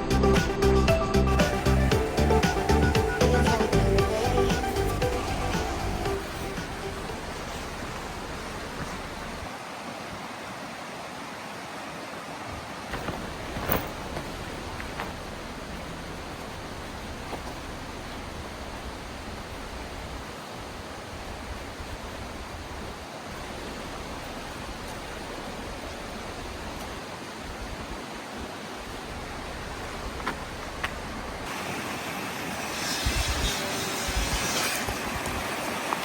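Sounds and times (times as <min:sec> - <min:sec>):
stream rushing: 0:00.0 - 0:36.0.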